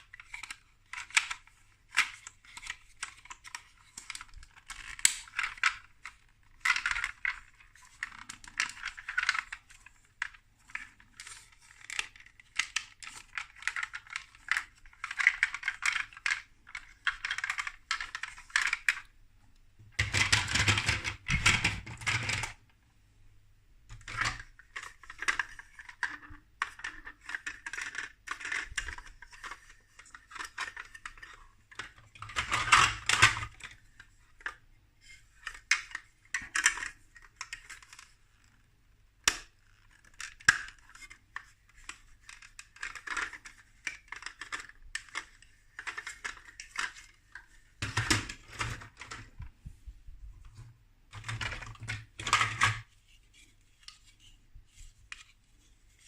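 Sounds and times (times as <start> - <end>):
plastic bricks clicking and clattering: 0.0 - 19.1, 20.0 - 22.6, 23.9 - 38.6, 39.3 - 49.4, 50.5 - 52.9.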